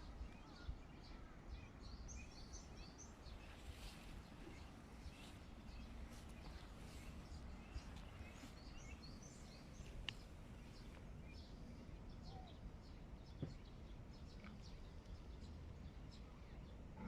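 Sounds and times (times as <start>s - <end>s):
low background rumble: 0.0s - 17.0s
small birds chirping: 0.0s - 17.0s.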